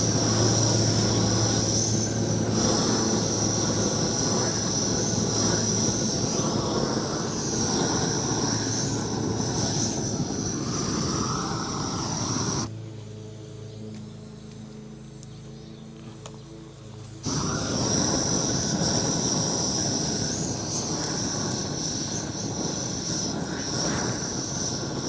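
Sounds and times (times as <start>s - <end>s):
gas torch roaring hiss: 0.0s - 12.7s, 17.2s - 25.0s
thin high whistle: 0.0s - 12.7s, 17.2s - 25.0s.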